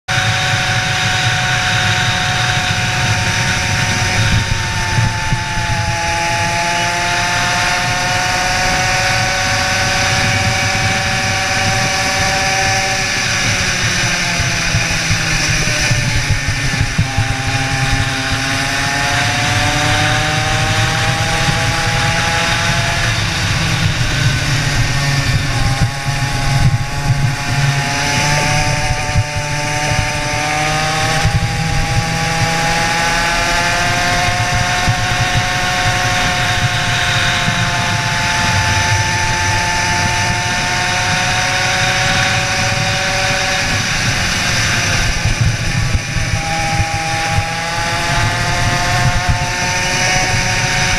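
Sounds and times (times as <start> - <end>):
kart engine racing: 0.1 - 50.9.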